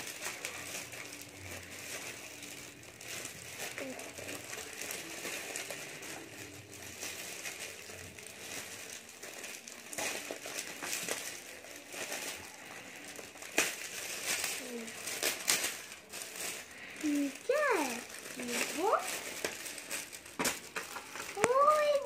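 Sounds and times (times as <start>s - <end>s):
foil wrap crinkling and tearing: 0.0s - 22.0s.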